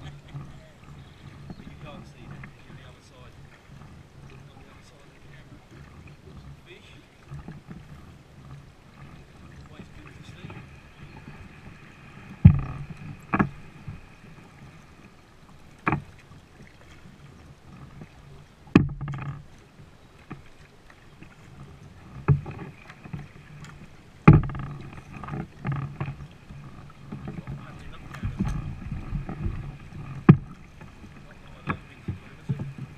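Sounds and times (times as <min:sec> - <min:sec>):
paddle knocking plastic hull: 0:00.0 - 0:32.9
water sloshing: 0:00.0 - 0:32.9.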